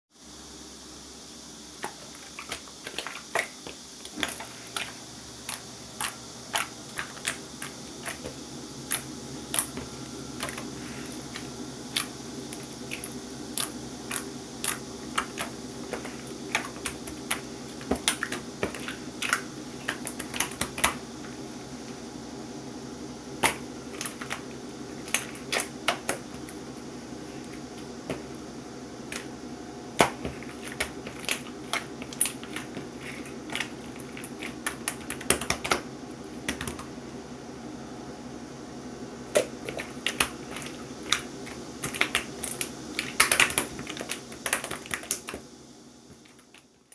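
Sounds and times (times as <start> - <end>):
steady low hum: 0.2 - 46.9.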